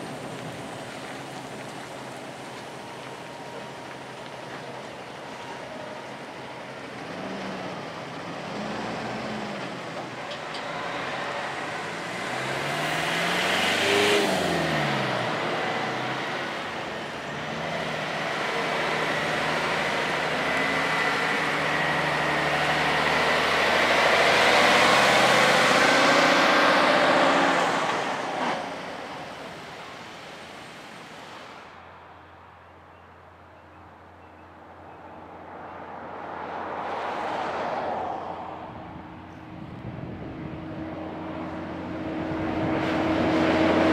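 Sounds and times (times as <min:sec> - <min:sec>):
tyre and engine noise: 0:00.0 - 0:43.9
vehicles passing: 0:00.0 - 0:43.9.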